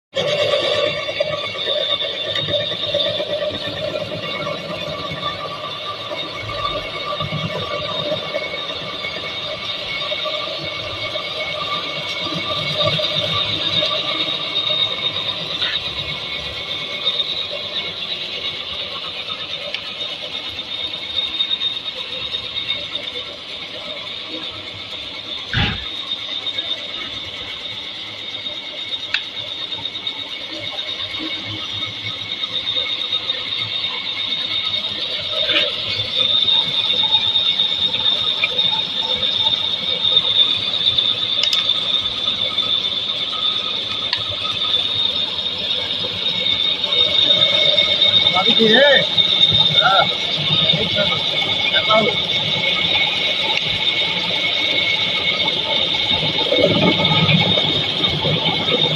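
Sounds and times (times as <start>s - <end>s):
drill whining: 0.2s - 58.9s.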